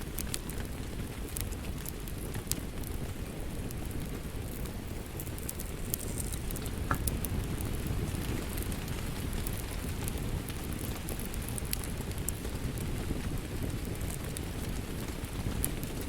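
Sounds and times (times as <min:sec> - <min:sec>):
rain pattering: 0:00.0 - 0:16.0
wood fire crackling and popping: 0:00.0 - 0:16.0.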